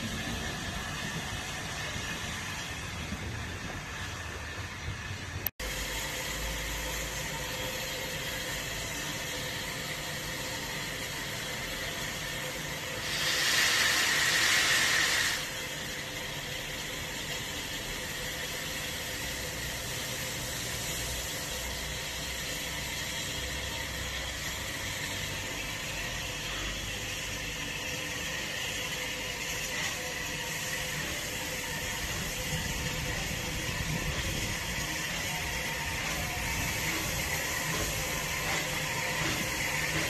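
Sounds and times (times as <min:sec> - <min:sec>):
burst of steam: 0:00.0 - 0:40.0
steam locomotive hissing: 0:00.0 - 0:40.0.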